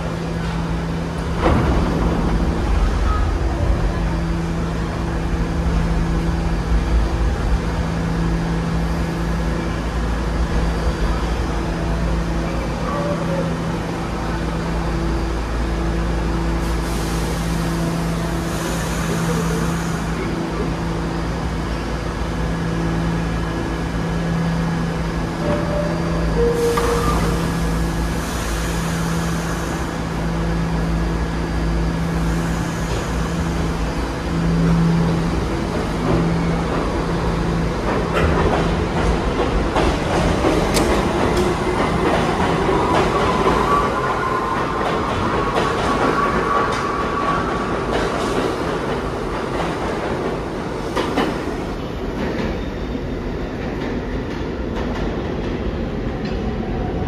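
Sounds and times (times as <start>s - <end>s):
subway train equipment hum: 0.0s - 57.0s.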